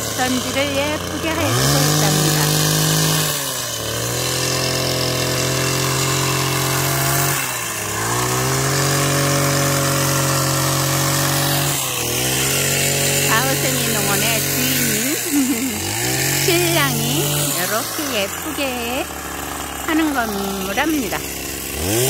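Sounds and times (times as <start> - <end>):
petrol hedge trimmer running: 0.0 - 22.0.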